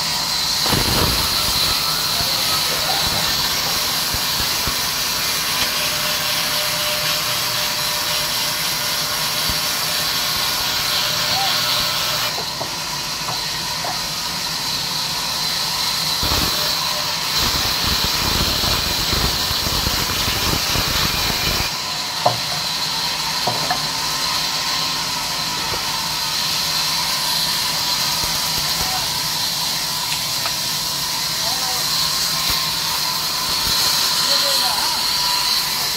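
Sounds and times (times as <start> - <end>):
band saw cutting log: 0.0 - 35.9.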